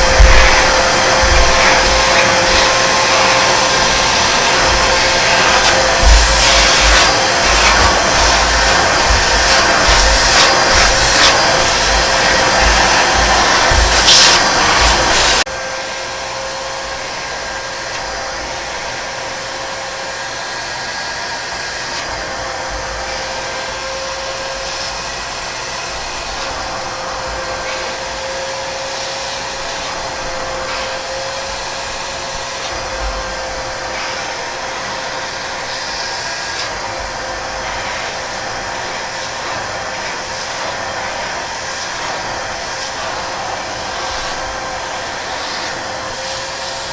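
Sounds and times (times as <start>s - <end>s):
vacuum cleaner motor running: 0.0s - 46.9s.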